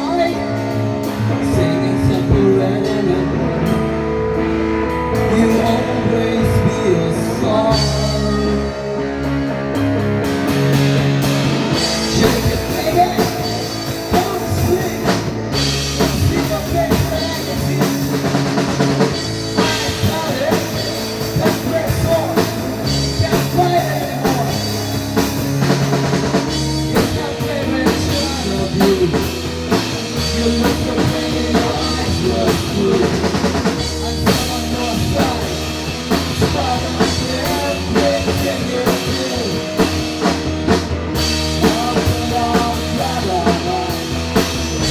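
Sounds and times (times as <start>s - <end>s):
bass line: 0.0s - 44.9s
drum kit beat: 0.0s - 44.9s
wavering guitar melody: 0.0s - 44.9s.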